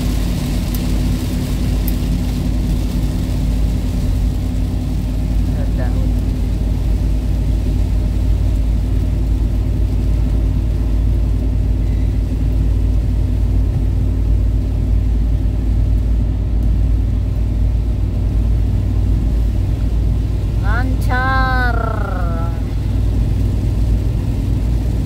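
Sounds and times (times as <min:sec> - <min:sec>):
car cabin road rumble: 0:00.0 - 0:25.0
heavy rain: 0:00.0 - 0:25.0.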